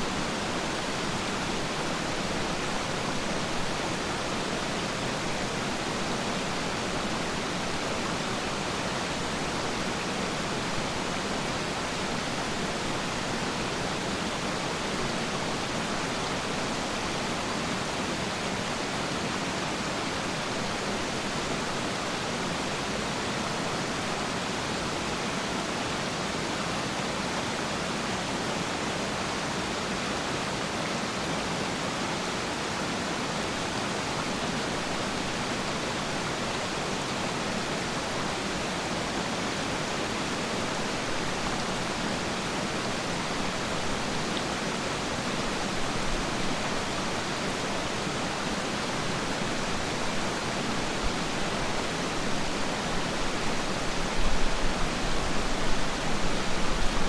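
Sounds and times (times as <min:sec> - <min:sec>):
waterfall rushing: 0:00.0 - 0:24.6, 0:31.1 - 0:57.0.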